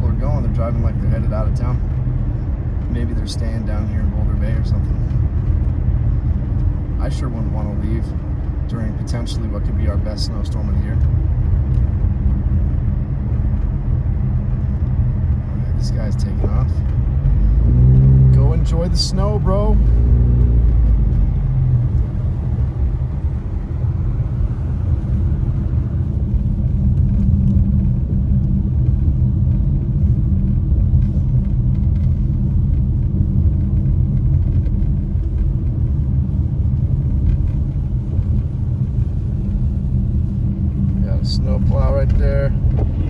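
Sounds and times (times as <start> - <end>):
car interior engine and tyre noise: 0.0 - 43.0.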